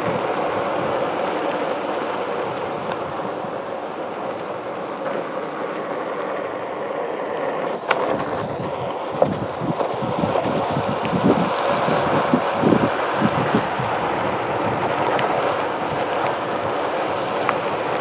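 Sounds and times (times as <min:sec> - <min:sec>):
electric board motor hum: 0:00.0 - 0:18.0
tyre rolling on pavement: 0:00.0 - 0:18.0
wind buffeting microphone: 0:00.0 - 0:18.0.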